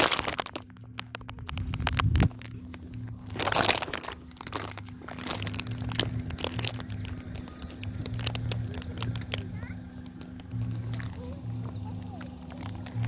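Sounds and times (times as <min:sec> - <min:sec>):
footsteps crunching on dry grass: 0:00.0 - 0:13.0
steady low hum: 0:00.0 - 0:13.0.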